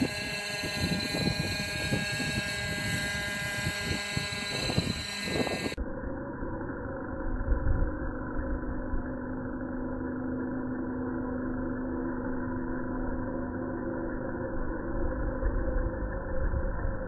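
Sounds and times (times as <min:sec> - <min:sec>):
low rumble: 0:00.0 - 0:17.0
model helicopter rotor drone: 0:00.0 - 0:17.0.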